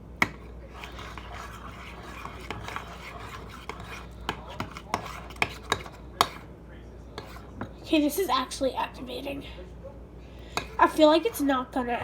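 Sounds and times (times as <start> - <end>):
spoon stirring slime in a bowl: 0.0 - 8.4, 10.4 - 12.0.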